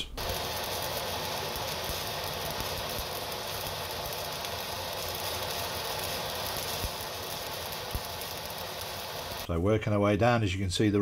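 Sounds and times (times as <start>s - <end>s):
welding arc crackling hiss: 0.0s - 9.5s.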